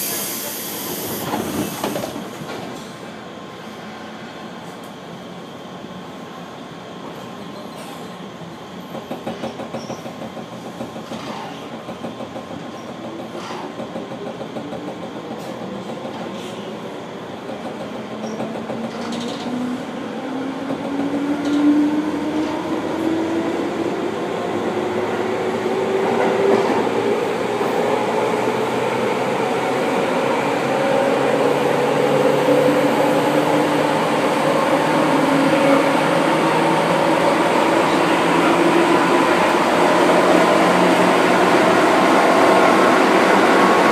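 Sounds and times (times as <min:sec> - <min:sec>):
train running noise: 0:00.0 - 0:43.9.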